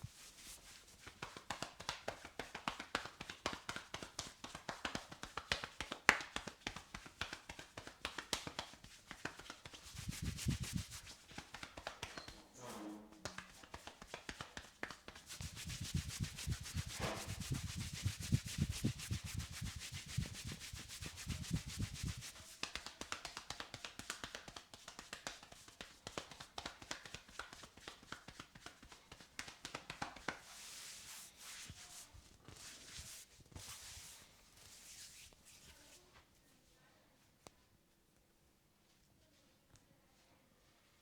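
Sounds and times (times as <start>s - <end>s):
hands slapping in massage: 0.0s - 12.4s, 13.2s - 35.8s
hands rubbing skin and hair: 0.0s - 36.0s.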